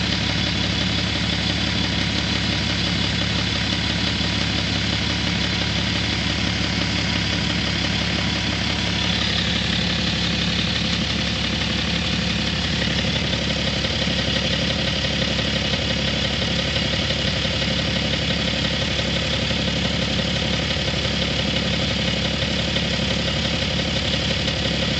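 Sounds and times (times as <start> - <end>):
diesel engine idling with knock: 0.0 - 24.9.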